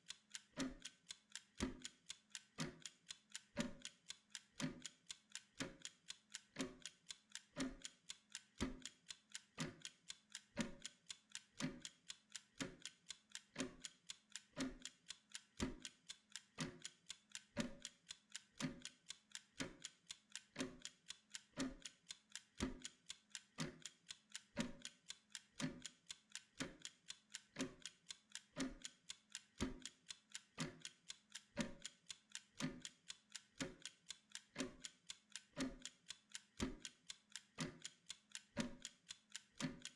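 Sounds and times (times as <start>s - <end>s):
mechanical timer ticking: 0.0s - 39.9s.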